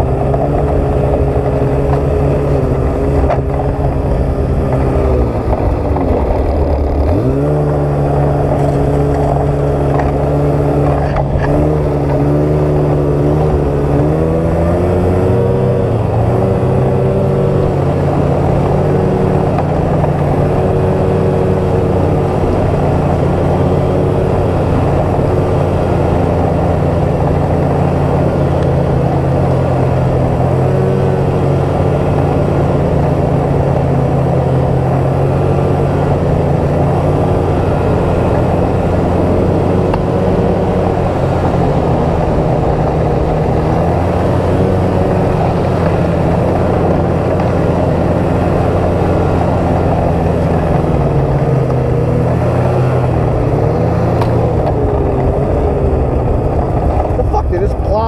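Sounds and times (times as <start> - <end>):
constant rushing noise: 0.0 - 58.0
snowmobile engine running: 0.0 - 58.0.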